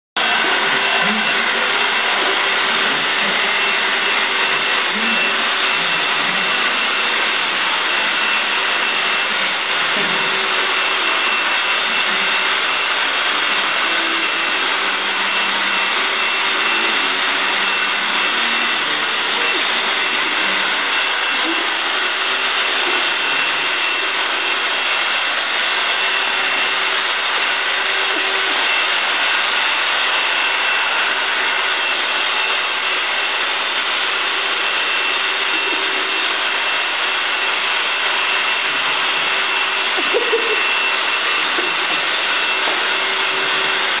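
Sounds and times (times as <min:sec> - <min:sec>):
upright vacuum cleaner running: 0:00.2 - 0:44.0.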